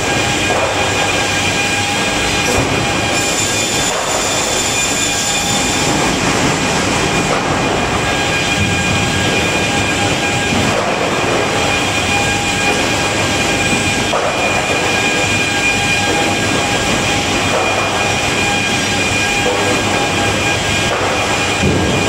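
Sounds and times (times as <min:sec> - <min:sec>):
high machine whine: 0:00.0 - 0:22.0
loud industrial machinery: 0:00.0 - 0:22.0.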